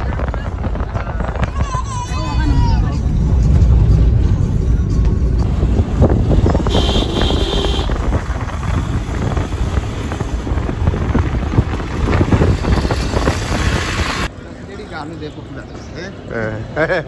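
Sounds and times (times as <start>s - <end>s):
wind buffeting microphone: 0.0s - 14.3s
car road noise: 0.0s - 17.0s.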